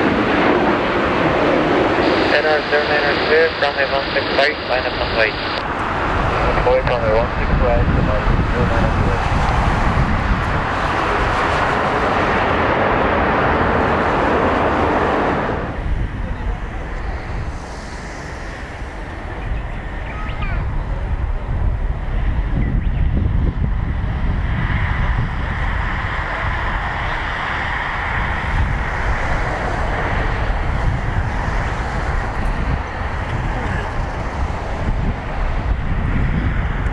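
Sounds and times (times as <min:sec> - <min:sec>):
jet airliner passing low: 0:00.0 - 0:36.9.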